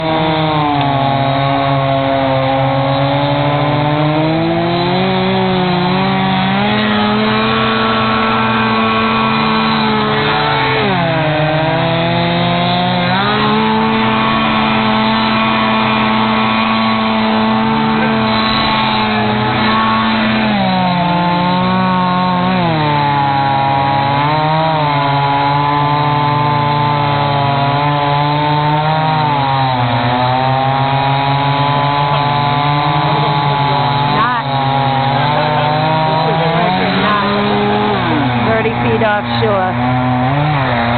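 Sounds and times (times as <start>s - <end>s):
engine revving: 0.0s - 40.9s.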